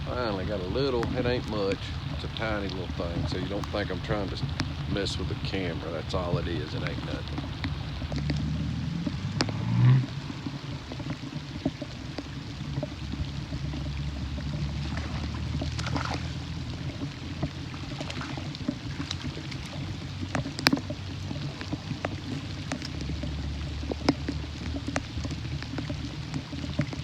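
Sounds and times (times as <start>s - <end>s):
light rain drops: 0.0s - 27.0s
steady low rumble: 0.0s - 27.0s.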